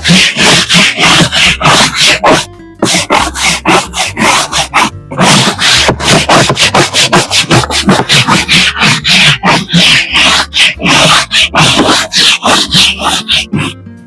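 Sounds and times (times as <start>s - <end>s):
stiff brush scrubbing plastic: 0.0s - 13.8s.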